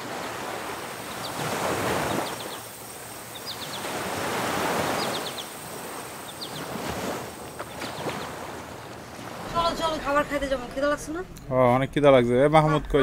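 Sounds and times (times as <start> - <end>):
sea surf washing in: 0.0 - 11.4.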